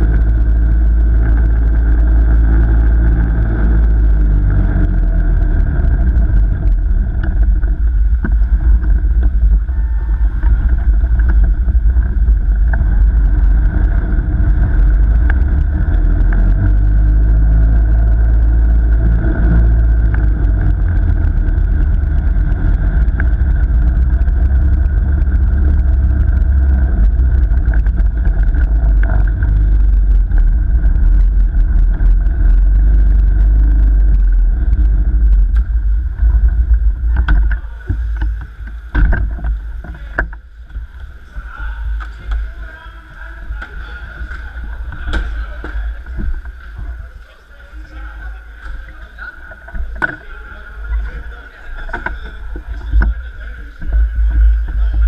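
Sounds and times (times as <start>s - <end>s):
faint steady whine: 0.0s - 55.0s
kart rumbling on ice: 0.0s - 55.0s.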